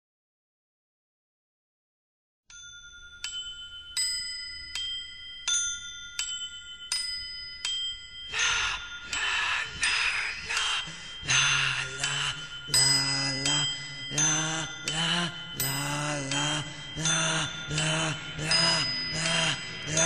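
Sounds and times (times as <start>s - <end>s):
slow bell-like melody: 2.5s - 20.0s.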